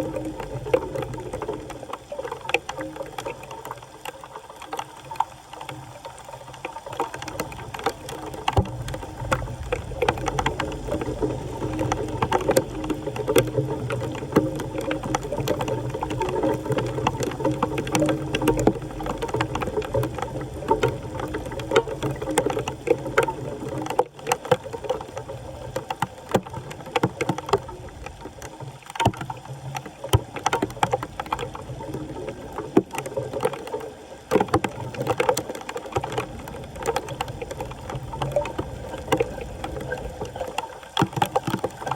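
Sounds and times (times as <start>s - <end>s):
floodwater gurgling into drain: 0.0s - 41.9s
sharp clicks and knocks: 6.5s - 41.9s.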